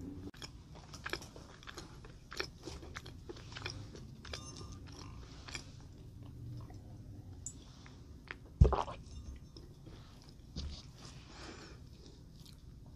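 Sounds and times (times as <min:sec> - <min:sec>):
chewing sweets: 0:00.2 - 0:12.9.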